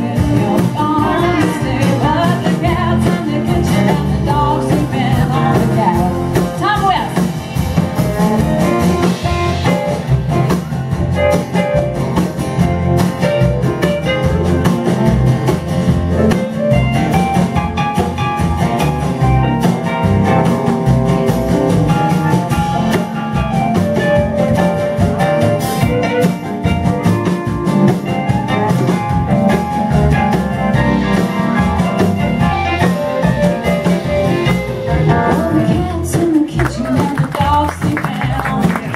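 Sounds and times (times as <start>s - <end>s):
acoustic guitar: 0.0s - 38.9s
blues-rock band playing: 0.0s - 38.9s
drums: 0.0s - 38.9s
electric guitar: 0.0s - 38.9s.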